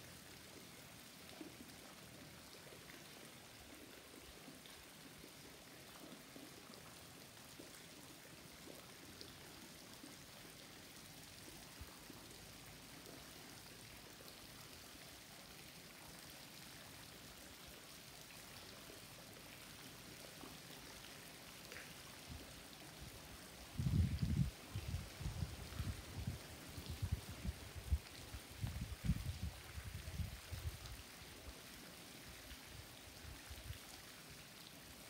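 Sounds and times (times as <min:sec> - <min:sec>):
water falling into pond: 0:00.0 - 0:35.0.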